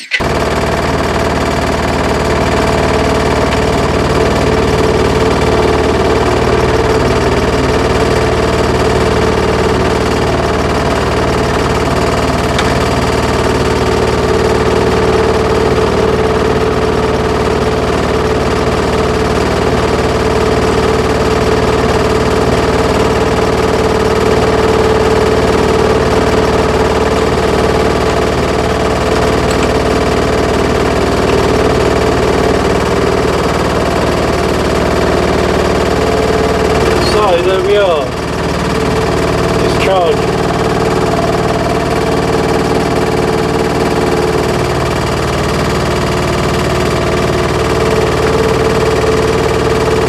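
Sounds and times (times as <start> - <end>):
car engine idling: 0.1 - 17.9, 21.5 - 50.0.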